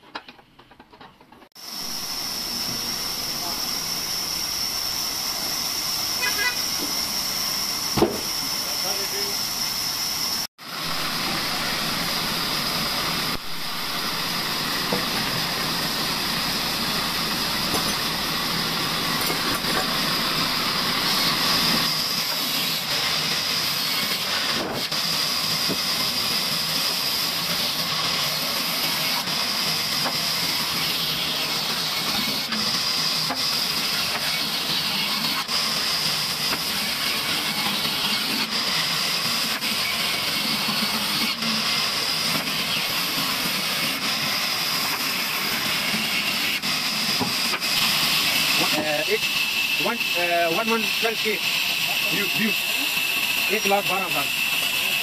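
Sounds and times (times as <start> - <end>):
band saw cutting wood: 1.6 - 55.0.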